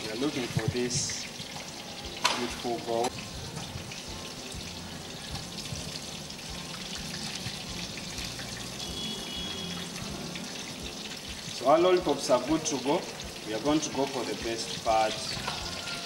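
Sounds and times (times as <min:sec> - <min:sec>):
chicken deep-frying in hot oil: 0:00.0 - 0:16.0.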